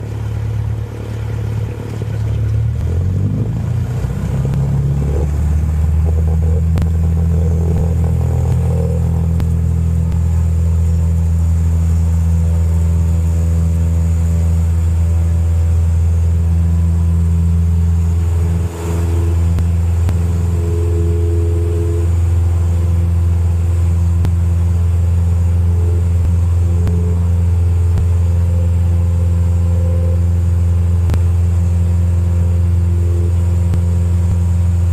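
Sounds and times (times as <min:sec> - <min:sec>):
aircraft engine at full power: 0:00.0 - 0:34.9.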